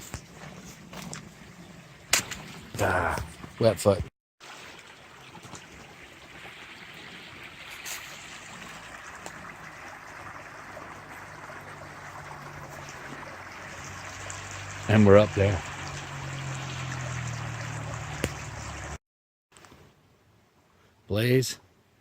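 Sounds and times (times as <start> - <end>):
spring water trickling: 0.0 - 3.8, 4.4 - 19.0.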